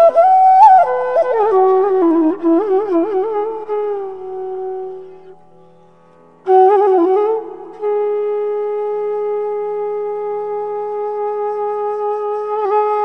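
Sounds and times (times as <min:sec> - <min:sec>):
solo wind instrument: 0:00.0 - 0:13.0.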